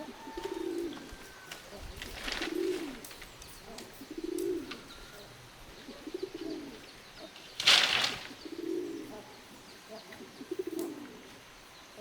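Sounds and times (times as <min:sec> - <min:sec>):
dove cooing: 0:00.0 - 0:07.4, 0:08.2 - 0:11.4
small birds chirping: 0:00.0 - 0:12.0.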